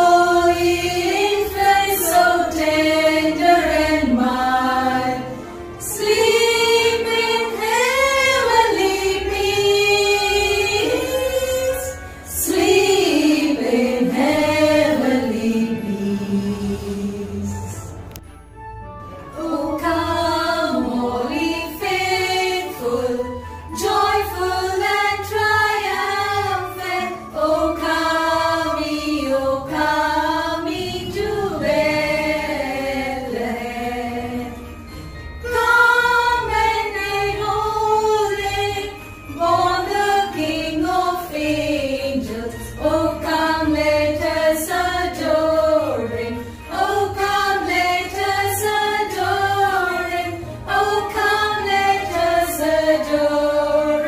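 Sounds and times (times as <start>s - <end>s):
women singing in unison: 0.0s - 18.0s, 19.4s - 34.7s, 35.5s - 54.0s.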